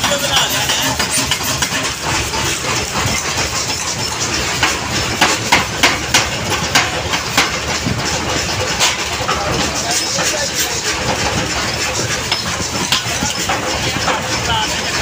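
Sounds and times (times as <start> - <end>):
power press running: 0.0 - 15.0
sharp metal clanks: 0.0 - 15.0.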